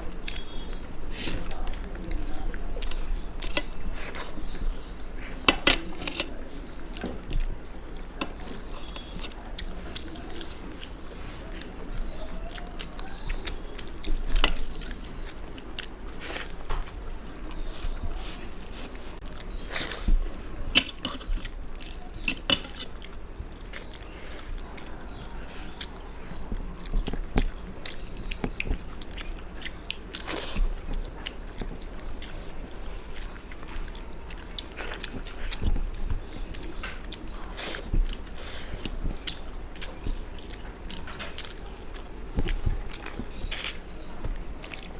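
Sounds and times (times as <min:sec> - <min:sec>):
chewing and smacking: 0:00.0 - 0:44.9.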